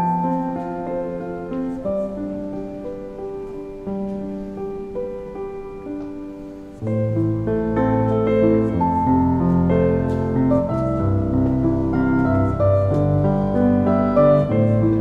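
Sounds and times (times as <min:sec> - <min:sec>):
piano instrumental music: 0:00.0 - 0:15.0.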